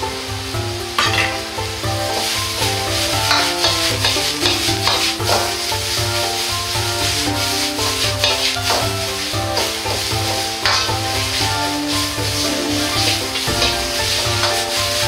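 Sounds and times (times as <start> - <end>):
background music with steady beat: 0.0 - 15.0
vegetables sizzling in a wok: 0.0 - 15.0
metal ladle scraping pan: 1.0 - 15.0.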